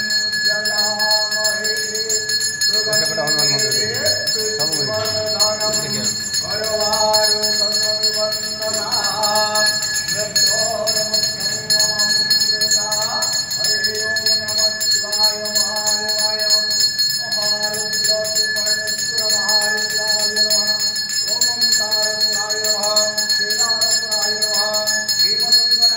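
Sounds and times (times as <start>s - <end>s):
brass hand bell ringing: 0.0s - 25.9s
person chanting: 0.3s - 25.9s.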